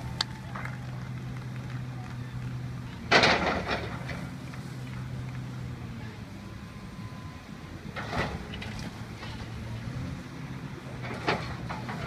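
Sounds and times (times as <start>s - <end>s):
diesel excavator engine running: 0.0s - 12.0s.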